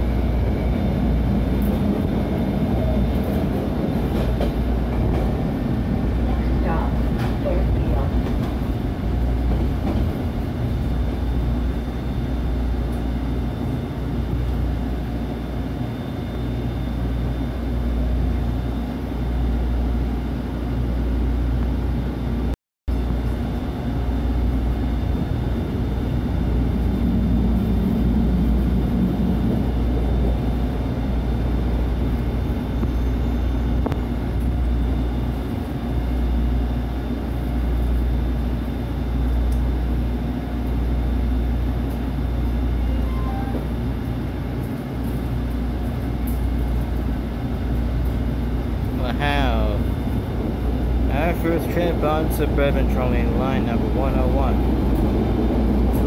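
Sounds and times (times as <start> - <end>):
tram wheels rumbling on track: 0.0 - 16.0, 22.9 - 56.0.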